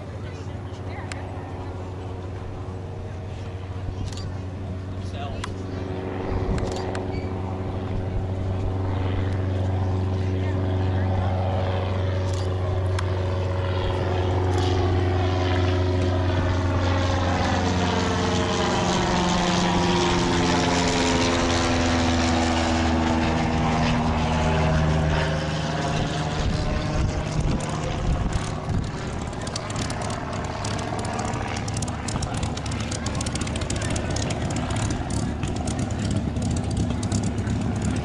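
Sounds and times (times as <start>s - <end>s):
propeller aircraft engine drone: 0.0s - 38.0s.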